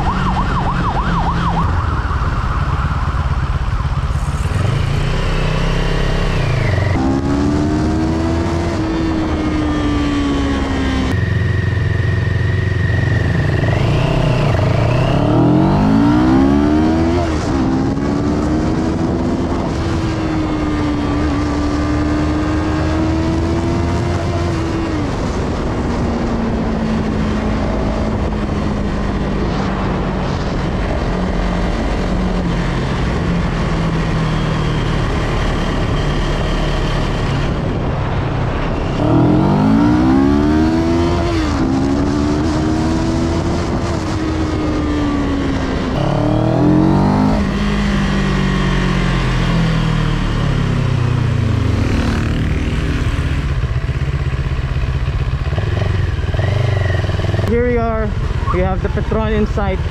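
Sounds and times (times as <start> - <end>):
motorcycle engine cruising: 0.0 - 59.9
road noise rushing: 0.0 - 59.9.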